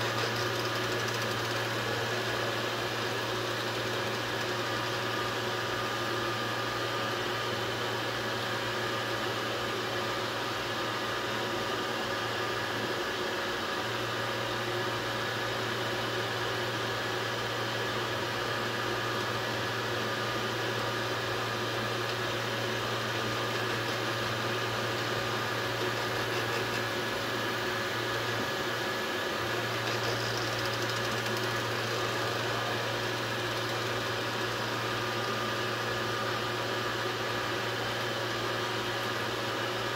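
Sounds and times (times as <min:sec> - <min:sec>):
printer fans and motors whirring: 0:00.0 - 0:39.9.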